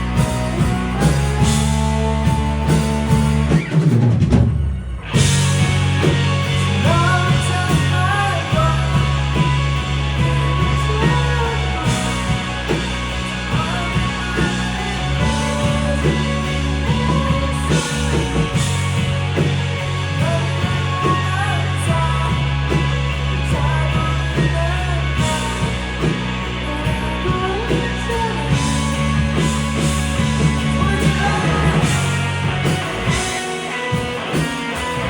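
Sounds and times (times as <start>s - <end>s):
person singing: 0.0s - 3.8s, 6.6s - 19.0s, 20.1s - 35.0s
electric guitar: 0.0s - 35.0s
live rock band playing: 0.0s - 35.0s.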